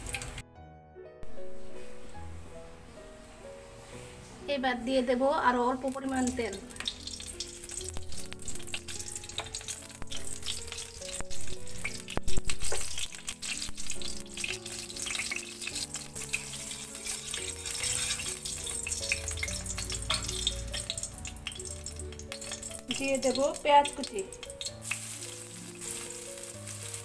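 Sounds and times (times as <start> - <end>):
oil crackling and sizzling: 0.0 - 0.4, 5.4 - 27.0
slow background music: 0.0 - 27.0.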